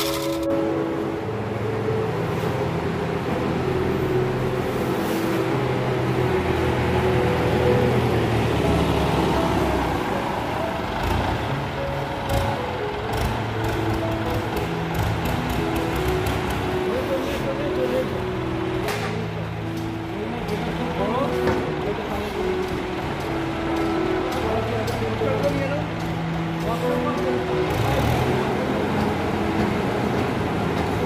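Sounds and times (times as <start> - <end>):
background music: 0.0 - 31.0
machinery engines running: 0.0 - 31.0.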